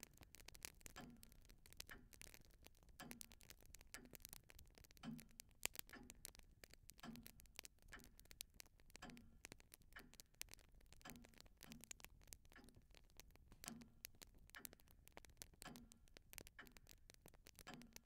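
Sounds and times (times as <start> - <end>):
faint soft ticks: 0.0 - 18.0.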